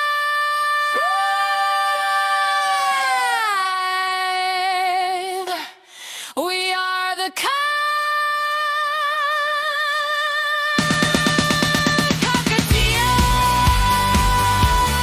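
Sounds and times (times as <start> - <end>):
woman singing wordlessly: 0.0 - 5.8, 6.4 - 15.0.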